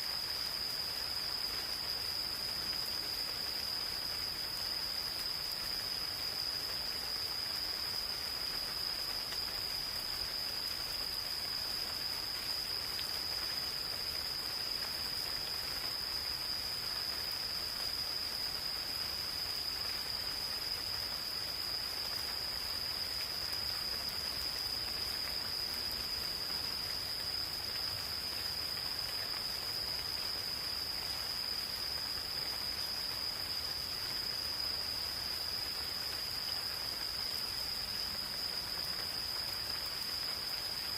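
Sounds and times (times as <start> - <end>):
gentle rain patter: 0.0 - 40.9
insects trilling: 0.0 - 40.9.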